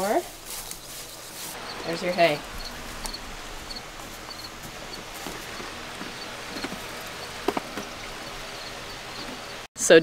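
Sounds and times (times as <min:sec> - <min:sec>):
hay rustling and crackling: 0:00.0 - 0:09.4
sheep chewing dry hay: 0:00.3 - 0:09.4.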